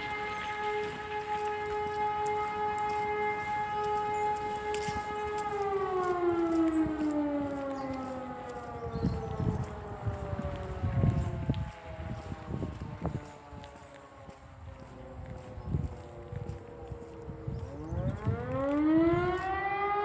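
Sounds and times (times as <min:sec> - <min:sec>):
siren winding down: 0:00.0 - 0:14.0, 0:14.7 - 0:20.0
second siren winding down: 0:00.0 - 0:20.0
wind buffeting microphone: 0:00.0 - 0:20.0.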